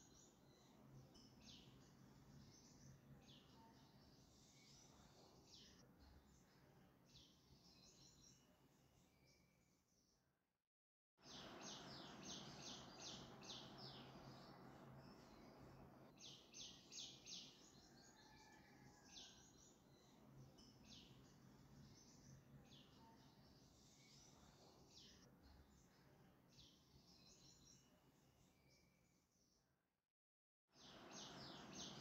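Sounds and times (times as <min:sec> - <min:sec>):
small birds chirping: 0:00.0 - 0:09.6, 0:11.2 - 0:29.1, 0:30.8 - 0:32.0.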